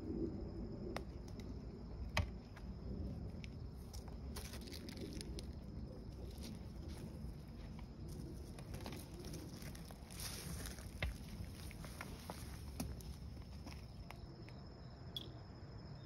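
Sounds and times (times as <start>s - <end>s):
soft footsteps outdoors: 1.0s - 16.0s.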